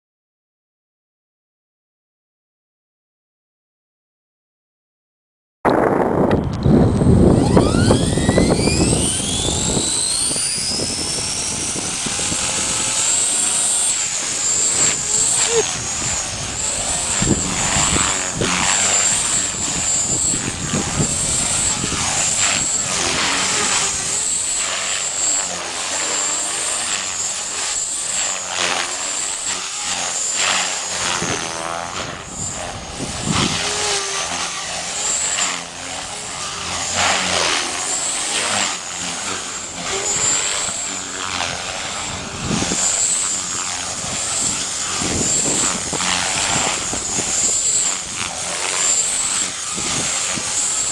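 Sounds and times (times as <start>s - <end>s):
model helicopter rotor whine: 5.7s - 50.9s.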